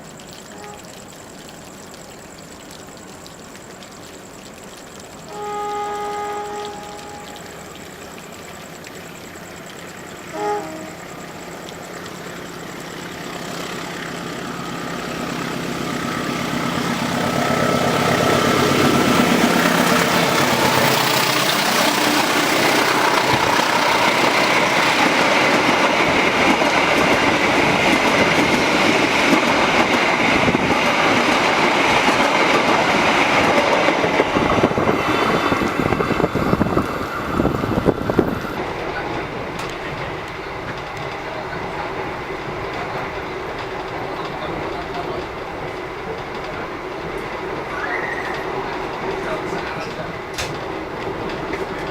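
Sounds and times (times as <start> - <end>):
train wheels clattering on rails: 5.2 - 51.9.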